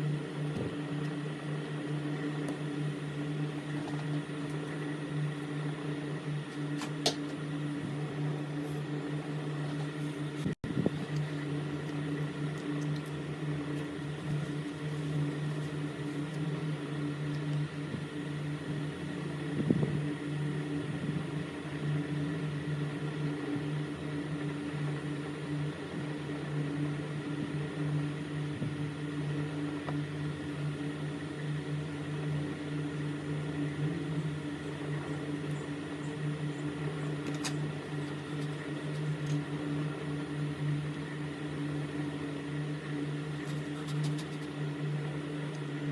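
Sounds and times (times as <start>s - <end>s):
steady low machine hum: 0.0s - 45.9s.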